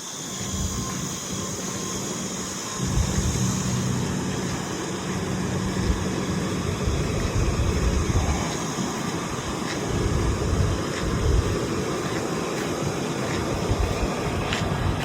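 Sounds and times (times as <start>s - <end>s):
truck engine running: 0.3s - 15.0s.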